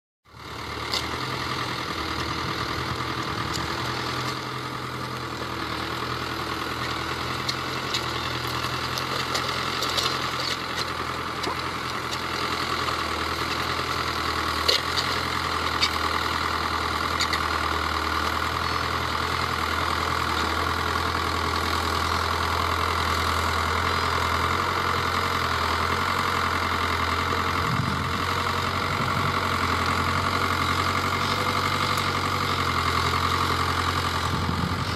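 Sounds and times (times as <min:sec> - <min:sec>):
tractor diesel engine under load: 0:00.3 - 0:34.9.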